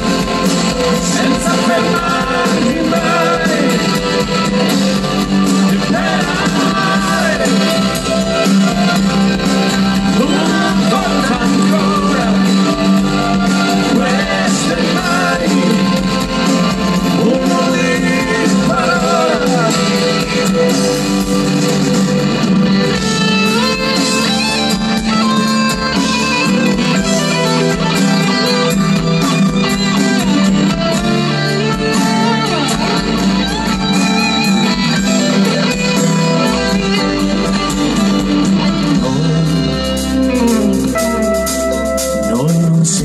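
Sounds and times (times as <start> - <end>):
drums: 0.0 - 43.0
electric guitar bending notes: 0.0 - 43.0
folk-rock band playing live: 0.0 - 43.0
keyboards: 0.0 - 43.0.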